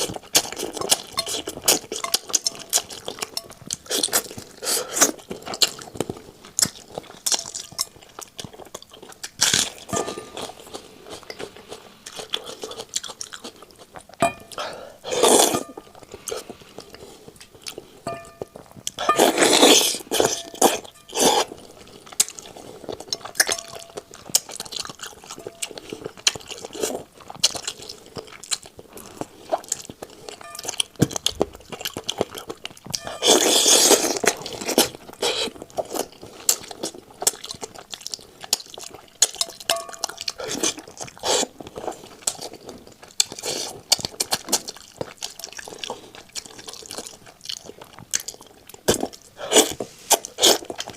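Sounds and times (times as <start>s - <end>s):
chewing and crunching chicken: 0.0s - 50.9s.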